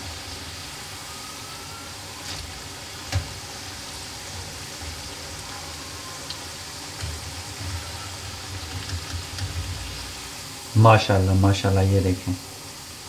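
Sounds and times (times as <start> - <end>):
fat sizzling and crackling: 0.0 - 13.0.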